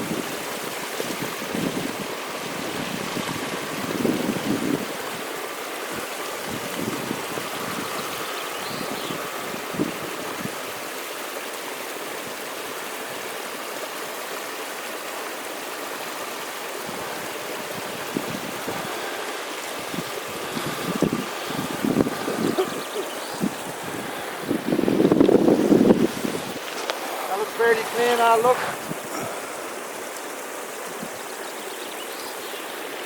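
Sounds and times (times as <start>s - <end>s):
stream running off stone: 0.0s - 33.0s.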